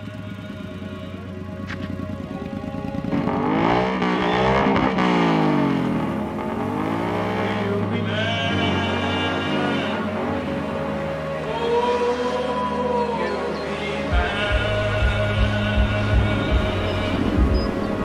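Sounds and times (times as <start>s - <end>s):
background music: 0.0s - 18.0s
motorcycle engine revving: 0.0s - 18.0s.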